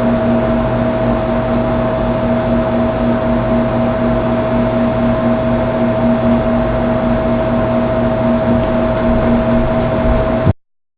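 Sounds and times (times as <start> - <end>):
steady hum and hiss: 0.0 - 10.5.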